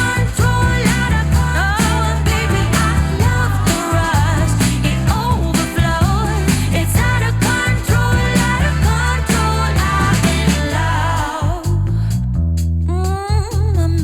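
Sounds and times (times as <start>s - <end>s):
pop music with steady bass: 0.0s - 14.0s.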